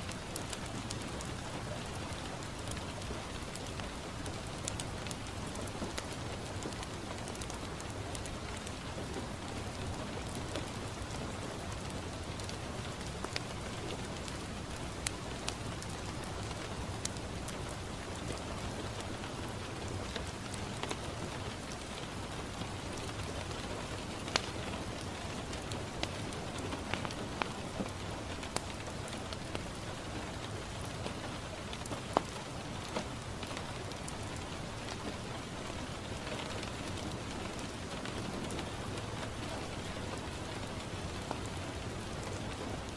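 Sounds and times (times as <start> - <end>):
fireplace crackling and popping: 0.0 - 42.9
rain on a window pane: 0.0 - 42.9.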